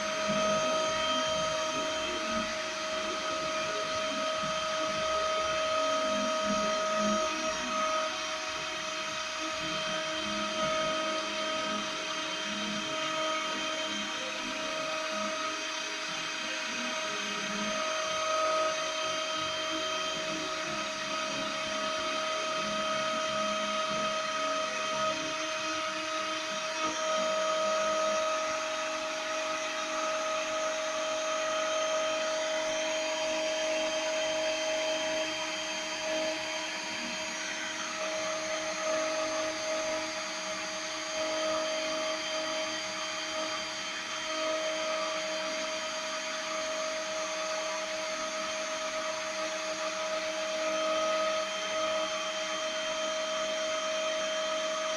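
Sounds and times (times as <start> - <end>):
milling machine spindle whine: 0.0 - 54.9.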